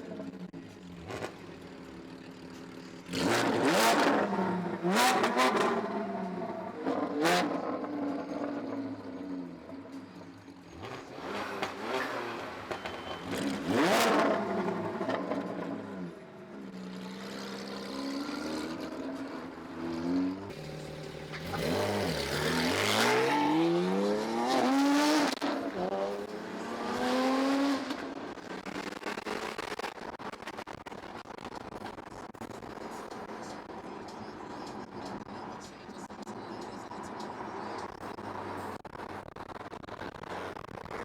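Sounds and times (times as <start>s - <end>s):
car engine accelerating hard: 0.0s - 10.1s, 10.7s - 35.4s.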